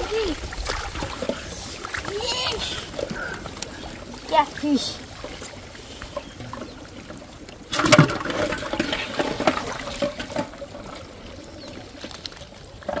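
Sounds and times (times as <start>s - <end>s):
water dripping: 0.0s - 13.0s
water splashing and trickling: 0.0s - 13.0s.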